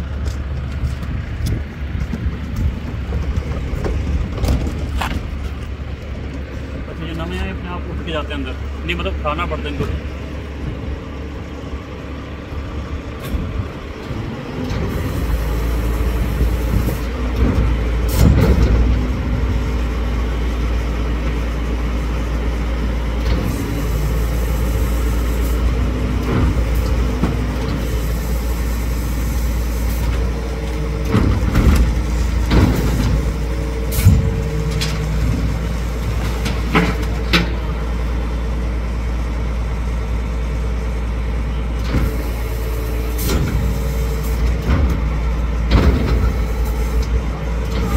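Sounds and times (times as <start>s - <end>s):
garbage truck engine drone: 0.0s - 47.9s.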